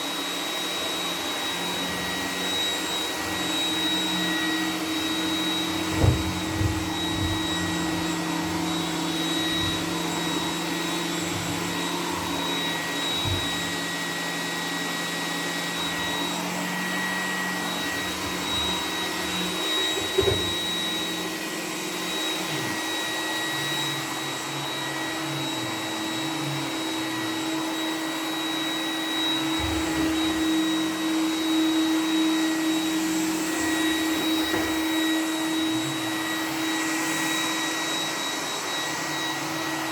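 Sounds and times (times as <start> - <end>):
robot vacuum motor whining: 0.0 - 39.9.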